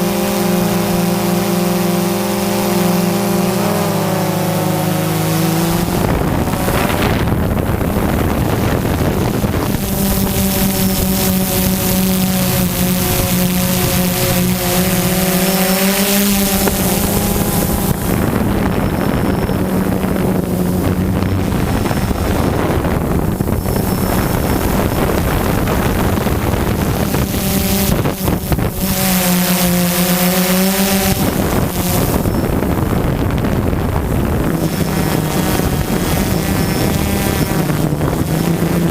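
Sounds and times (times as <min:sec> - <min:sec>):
drone motors humming: 0:00.0 - 0:38.9
wind rushing over microphone: 0:00.0 - 0:38.9.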